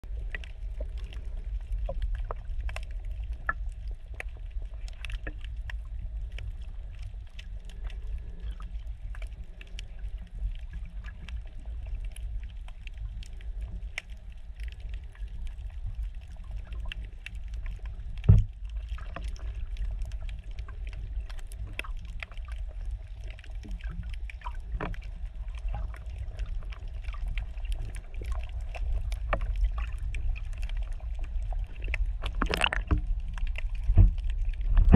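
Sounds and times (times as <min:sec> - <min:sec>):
muffled underwater rumble: 0:00.0 - 0:34.9.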